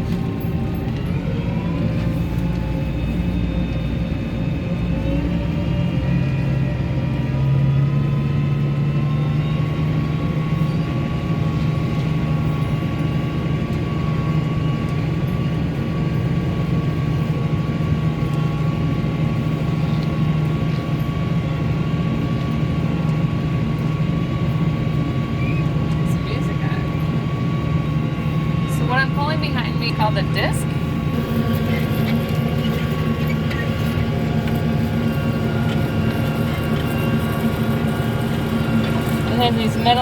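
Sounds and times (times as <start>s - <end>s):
steady whine: 0.0s - 40.0s
tractor diesel engine drone: 0.0s - 40.0s.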